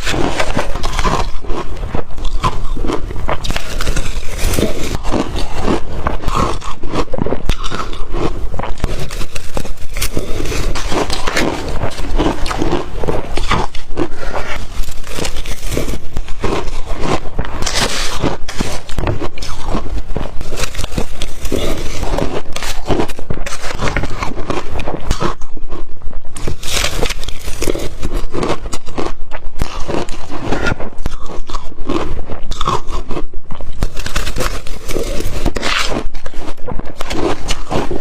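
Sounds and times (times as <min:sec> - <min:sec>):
chewing crushed ice: 0:00.0 - 0:38.0.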